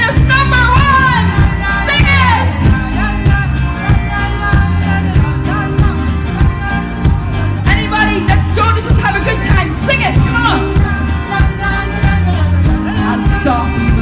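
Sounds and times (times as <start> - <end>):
drum kit beat: 0.0 - 14.0
electric guitar: 0.0 - 14.0
person singing: 0.1 - 14.0.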